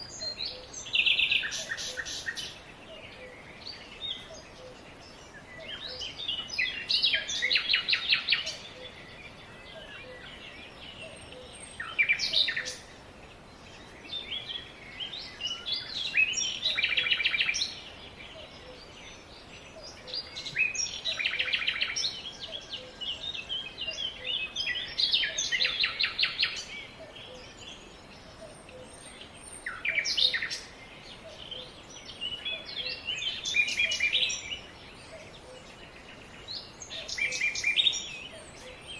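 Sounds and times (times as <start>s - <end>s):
songbirds singing: 0.0s - 38.9s
steady background hiss: 0.0s - 38.9s.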